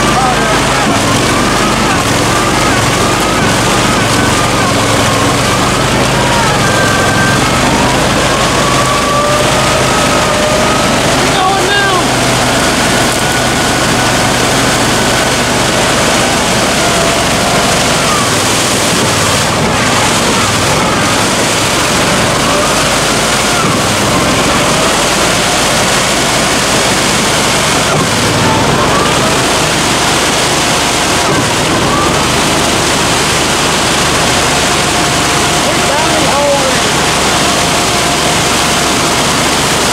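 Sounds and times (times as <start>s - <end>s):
splashing through mud and water: 0.0s - 39.9s
vehicle engine running hard: 0.0s - 39.9s.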